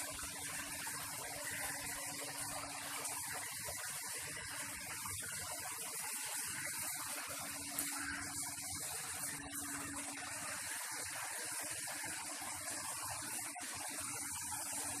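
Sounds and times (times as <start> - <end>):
faint steady hum: 0.0 - 15.0
water fountain splashing: 0.0 - 15.0.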